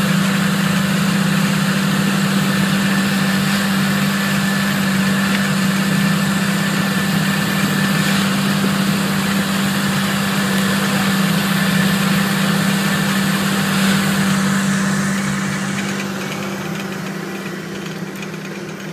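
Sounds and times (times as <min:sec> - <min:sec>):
soil hissing along scraper blade: 0:00.0 - 0:18.9
tractor engine running: 0:00.0 - 0:18.9.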